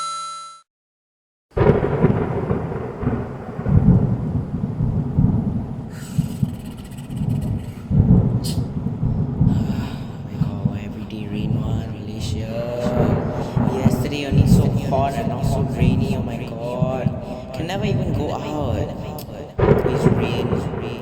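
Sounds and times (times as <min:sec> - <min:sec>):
rain: 0:01.6 - 0:18.6
rolling thunder: 0:01.6 - 0:21.0.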